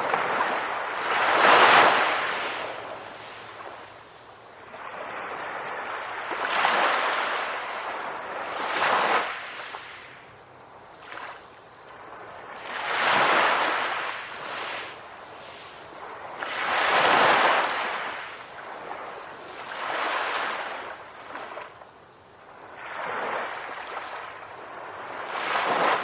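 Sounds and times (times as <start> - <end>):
ocean waves washing onto shore: 0.0 - 26.0.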